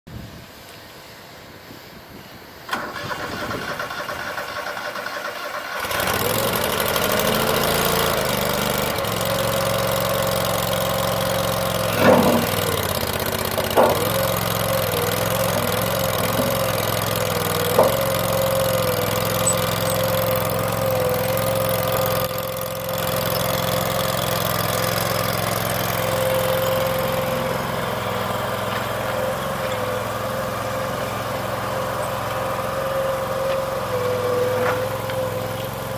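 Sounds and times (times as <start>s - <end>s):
engine cranking and running: 2.7s - 35.9s.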